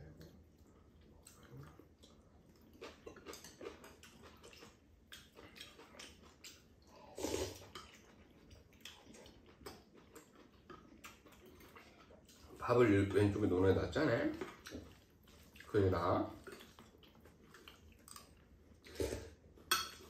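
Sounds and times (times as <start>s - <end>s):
chewing: 0.1s - 12.6s, 14.3s - 20.0s.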